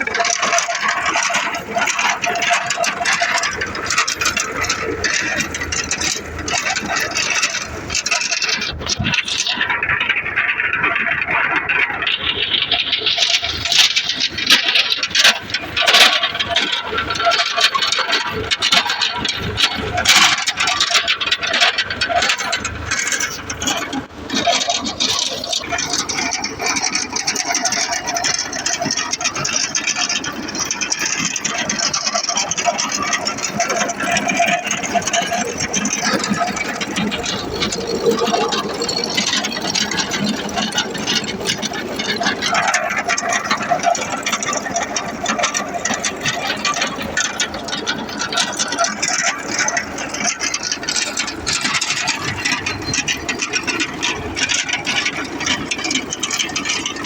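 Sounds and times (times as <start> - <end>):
fast mechanical clatter: 0.0 - 57.0
tractor engine running: 0.0 - 57.0.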